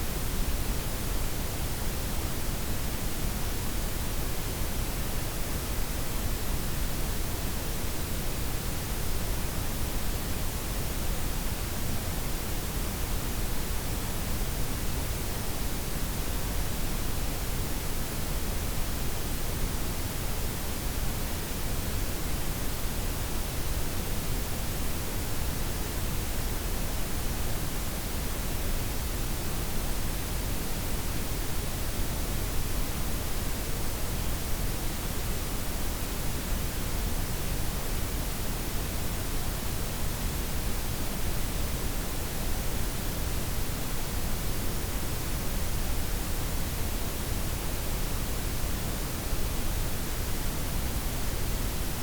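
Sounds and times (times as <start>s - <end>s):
steady hiss with low rumble: 0.0s - 52.0s.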